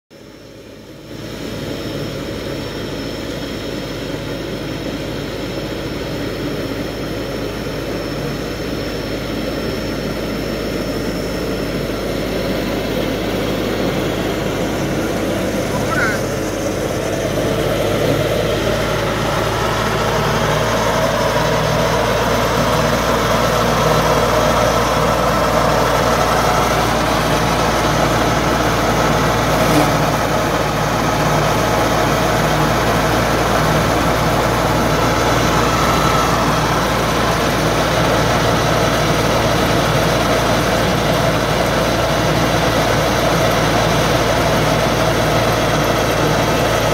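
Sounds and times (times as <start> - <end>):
ride-on mower engine running: 0.2 - 46.9.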